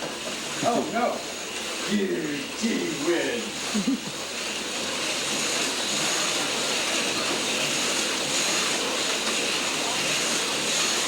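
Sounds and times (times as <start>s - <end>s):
slot car motors whining: 0.0s - 11.0s.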